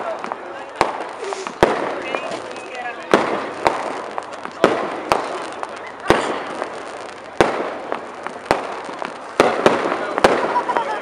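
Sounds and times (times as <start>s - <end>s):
firework bangs: 0.0s - 11.0s
firework crackling: 0.0s - 11.0s.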